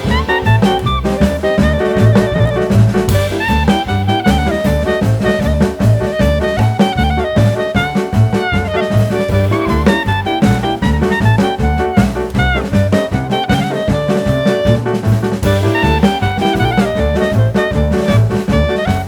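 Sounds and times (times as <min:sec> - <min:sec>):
drum kit steady beat: 0:00.0 - 0:19.0
upbeat jazz with brass: 0:00.0 - 0:19.0.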